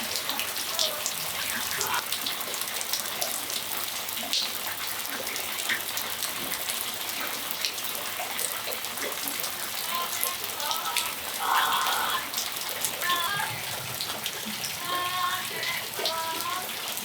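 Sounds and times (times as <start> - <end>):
raindrops tapping: 0.0 - 17.0
steady rain hiss: 0.0 - 17.0.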